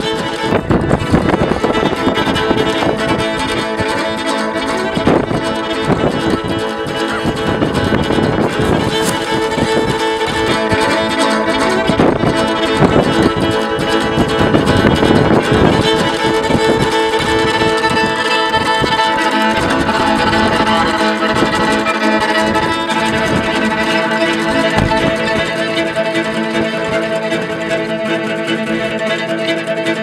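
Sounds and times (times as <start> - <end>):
fiddle playing long notes: 0.0 - 30.0
steady musical accompaniment: 0.0 - 30.0.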